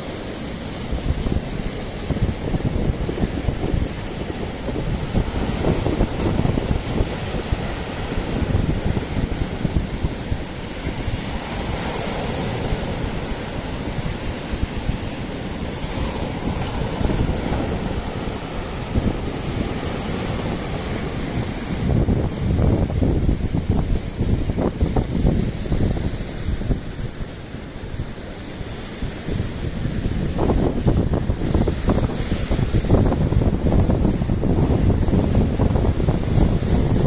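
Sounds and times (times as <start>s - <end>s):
surf washing ashore: 0.0s - 37.0s
wind buffeting microphone: 0.0s - 37.0s.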